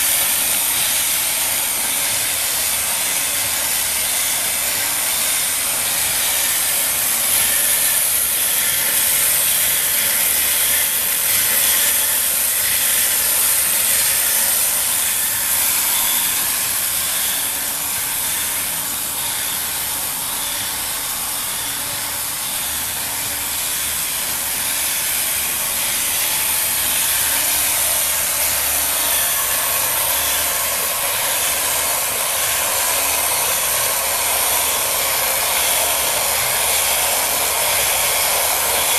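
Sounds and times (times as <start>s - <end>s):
small motors whirring: 0.0s - 38.9s.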